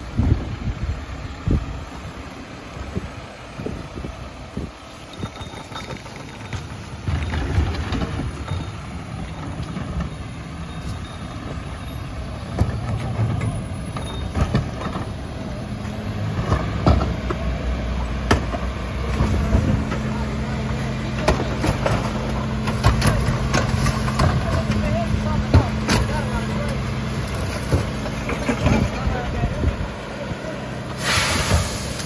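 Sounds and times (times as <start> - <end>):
garbage truck engine running: 0.0 - 32.0.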